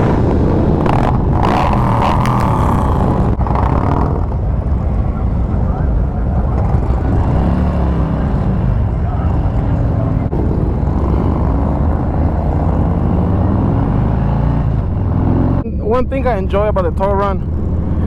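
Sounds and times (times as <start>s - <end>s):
motorcycle engines rumbling: 0.0s - 18.0s.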